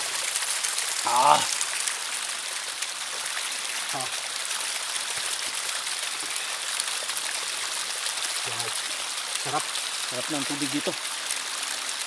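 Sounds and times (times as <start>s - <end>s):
spring water trickling over rocks: 0.0s - 12.0s.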